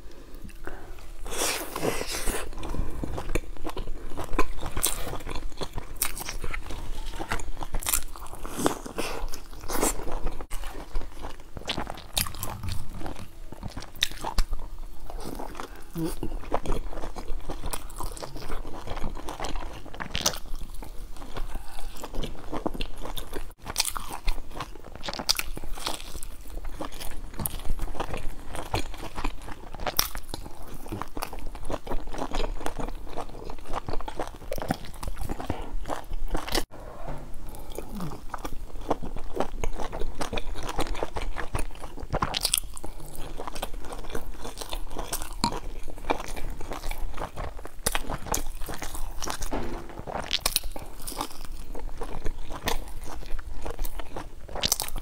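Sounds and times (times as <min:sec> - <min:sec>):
biting and chewing: 0:00.5 - 0:36.7, 0:37.5 - 0:55.0.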